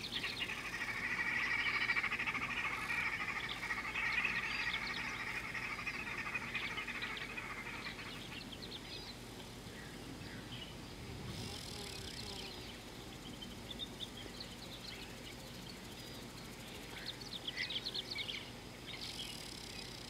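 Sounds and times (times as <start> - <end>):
frogs trilling chorus: 0.0 - 9.2, 11.4 - 20.0.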